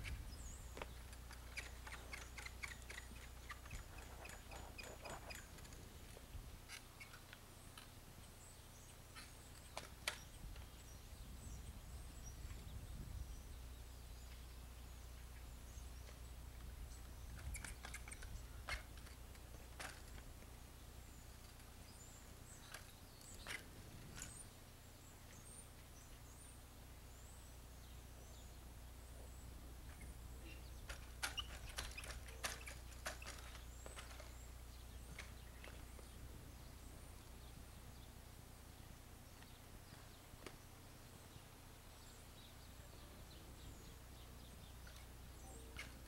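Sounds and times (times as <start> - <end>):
birds chirping: 0.0 - 46.0
steady low hum: 0.0 - 46.0.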